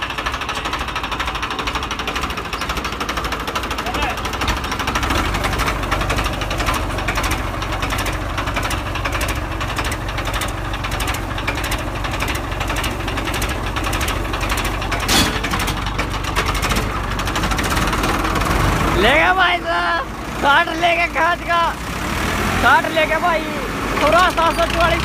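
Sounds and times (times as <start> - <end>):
second tractor engine running: 0.0 - 25.0
tractor diesel engine clattering: 0.0 - 25.0.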